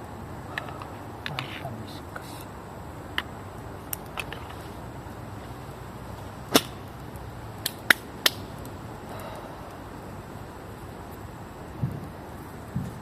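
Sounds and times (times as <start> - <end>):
campfire crackling pops: 0.0 - 13.0
faint steady hiss: 0.0 - 13.0.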